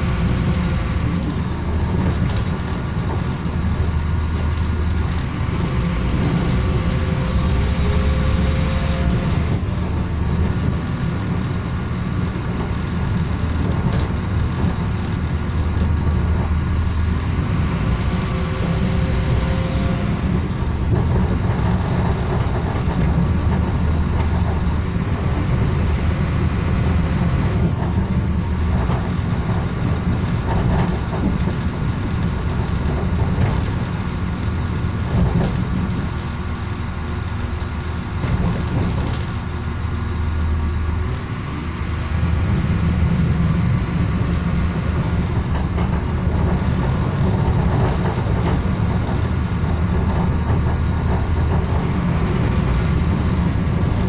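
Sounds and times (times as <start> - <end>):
train wheels rumbling on track: 0.0 - 54.0
knocks and rattles: 0.2 - 36.5, 37.1 - 39.5, 43.8 - 54.0.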